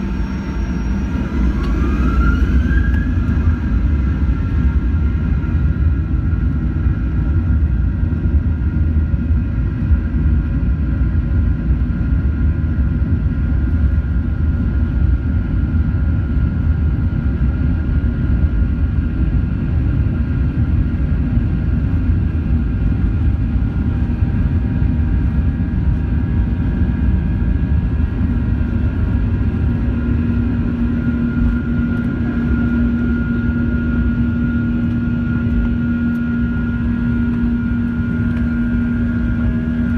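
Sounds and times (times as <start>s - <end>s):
engine whine: 0.0s - 39.9s
jet engine rumble: 0.0s - 39.9s
low steady hum: 0.0s - 39.9s.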